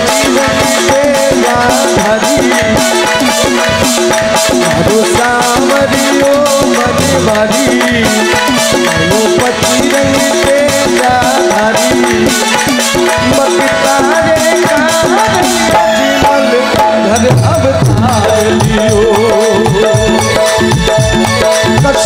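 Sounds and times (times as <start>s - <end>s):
hand drum and rattling percussion: 0.0s - 22.0s
harmonium and keyboard melody: 0.0s - 22.0s
person singing: 0.0s - 22.0s.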